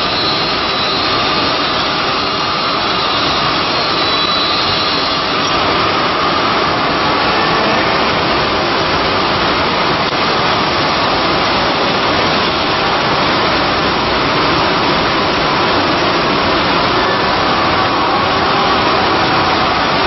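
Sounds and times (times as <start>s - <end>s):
cnc router running: 0.0s - 20.0s
faint steady whine: 0.0s - 20.0s.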